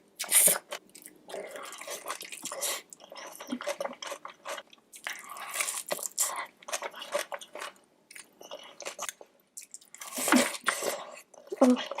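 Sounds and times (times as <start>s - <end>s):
person chewing crunchy food: 0.2s - 12.0s.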